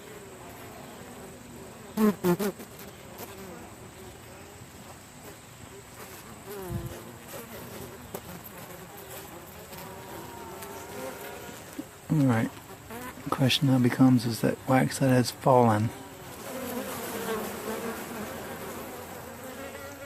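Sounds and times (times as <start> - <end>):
bees buzzing: 0.0 - 4.4, 5.8 - 20.0.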